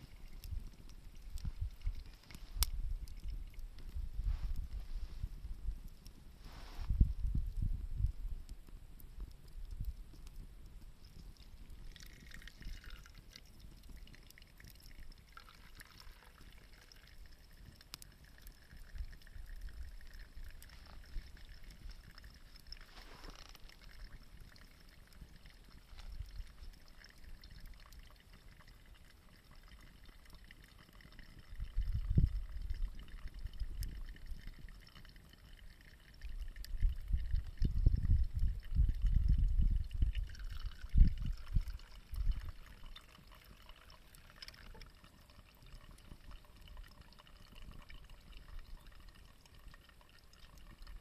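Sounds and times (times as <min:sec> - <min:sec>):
liquid trickling and gurgling: 0:00.0 - 0:08.2, 0:09.2 - 0:51.0
faint steady hiss: 0:00.0 - 0:51.0.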